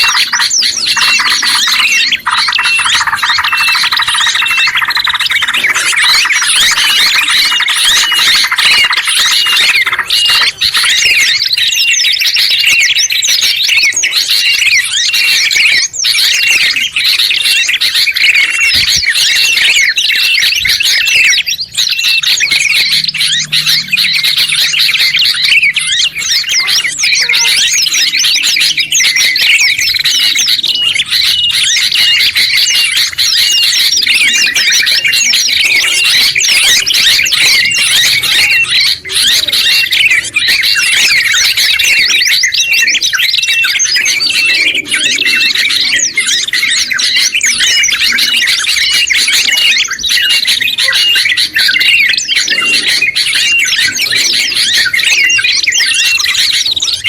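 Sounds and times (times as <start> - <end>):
songbirds chorus: 0.0 - 57.0.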